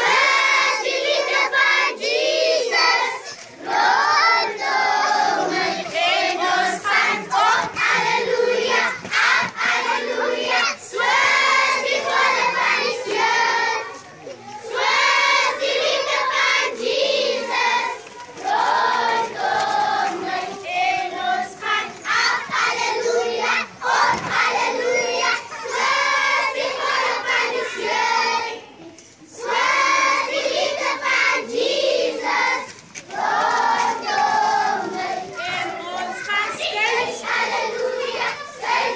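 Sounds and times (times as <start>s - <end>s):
children singing together: 0.0s - 38.9s.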